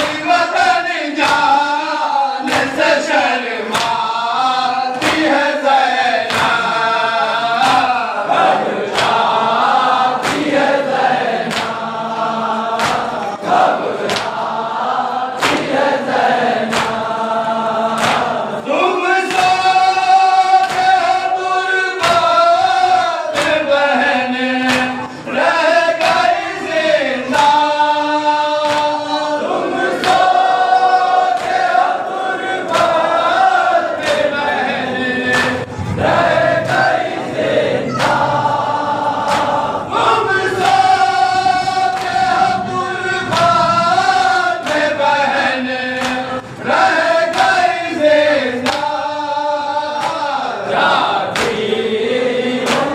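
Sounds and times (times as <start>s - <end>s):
hands slapping chests: 0.0s - 1.7s, 2.4s - 4.2s, 4.8s - 18.5s, 19.2s - 21.3s, 22.0s - 27.8s, 28.6s - 42.4s, 43.3s - 47.8s, 48.6s - 49.0s, 50.0s - 51.8s, 52.6s - 52.9s
lead reciter singing: 0.0s - 52.9s
men chanting in chorus: 0.0s - 52.9s.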